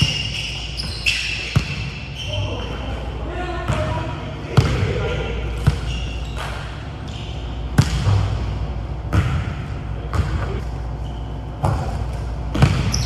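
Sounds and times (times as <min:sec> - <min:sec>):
basketball bouncing on gym floor: 0:00.0 - 0:02.4, 0:03.7 - 0:10.8, 0:11.6 - 0:13.0.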